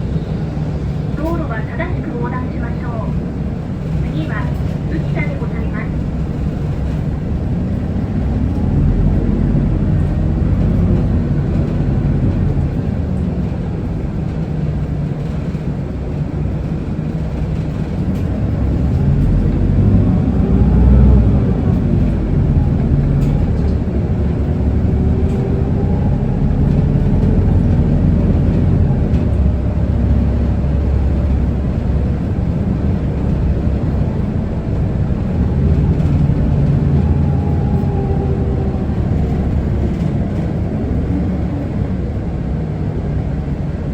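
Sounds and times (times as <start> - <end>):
bus diesel engine rumble: 0.0 - 43.9
drivetrain whine: 0.0 - 43.9
road noise: 0.0 - 43.9.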